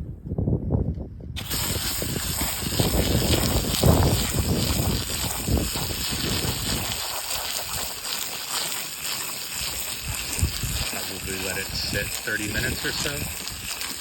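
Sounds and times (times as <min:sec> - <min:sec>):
spray nozzle hissing: 0:01.4 - 0:14.0.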